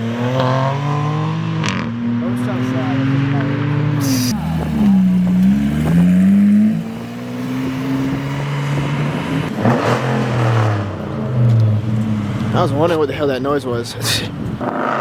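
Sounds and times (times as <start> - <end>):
lower engine note: 0.0 - 13.0
car engines revving past: 0.0 - 13.2, 14.3 - 15.0.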